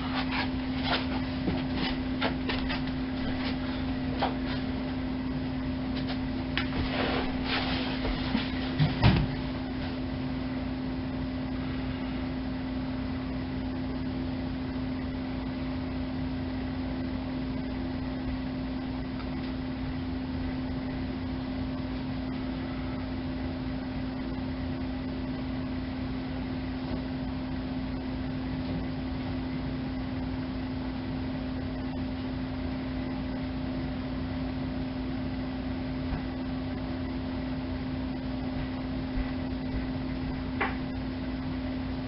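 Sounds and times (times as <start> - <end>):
steady electrical hum: 0.0 - 42.0.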